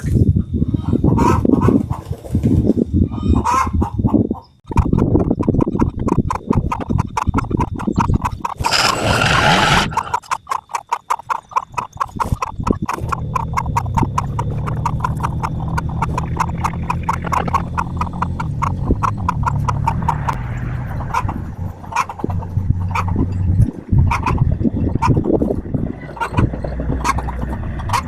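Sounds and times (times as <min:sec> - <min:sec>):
small engine clattering: 0:04.8 - 0:28.0.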